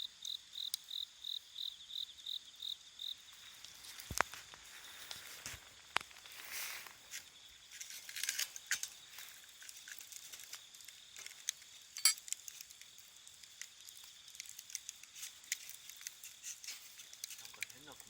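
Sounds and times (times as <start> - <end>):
sharp pops from burning wood: 0.2 - 0.9, 3.4 - 18.0
wood fire crackling: 3.0 - 18.0.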